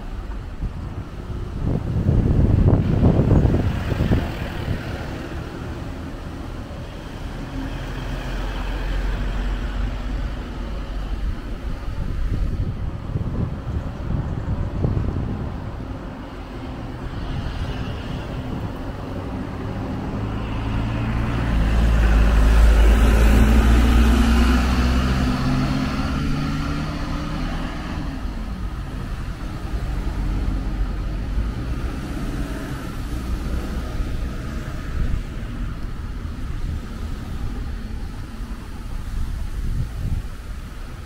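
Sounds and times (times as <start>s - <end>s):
traffic: 0.0s - 41.0s
vehicle passing by: 1.6s - 40.7s.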